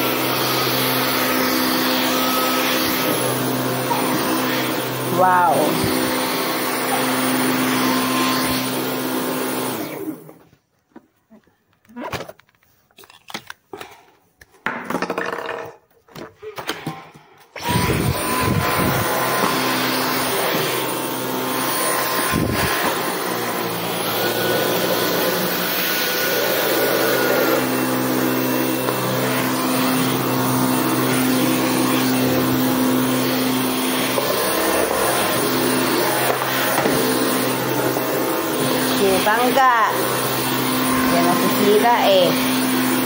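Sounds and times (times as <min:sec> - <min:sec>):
vacuum cleaner whining: 0:00.0 - 0:10.6, 0:17.6 - 0:43.0.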